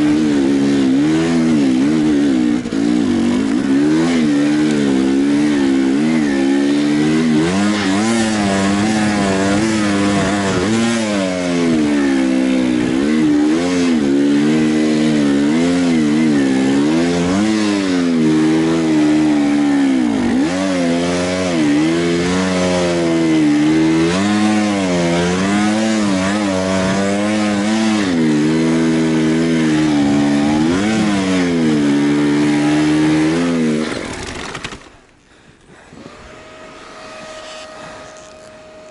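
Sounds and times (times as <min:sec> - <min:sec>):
motorcycle engine revving: 0:00.0 - 0:35.1, 0:35.8 - 0:38.9.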